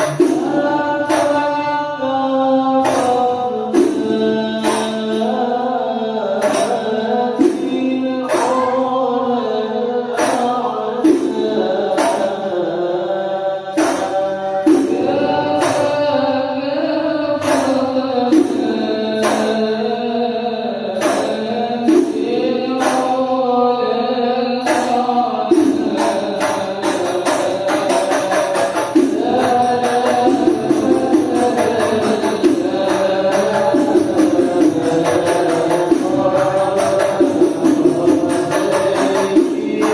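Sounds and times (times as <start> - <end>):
frame drums beating: 0.0 - 2.2, 2.8 - 5.6, 6.4 - 9.0, 10.1 - 12.5, 13.7 - 16.1, 17.4 - 19.8, 21.0 - 23.3, 24.6 - 39.9
devotional singing: 0.0 - 39.9.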